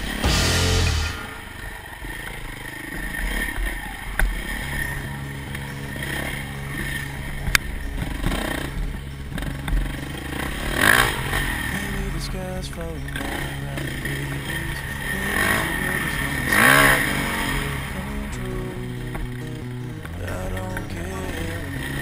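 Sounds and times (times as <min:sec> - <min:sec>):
dirt bike engine: 0:00.0 - 0:22.0.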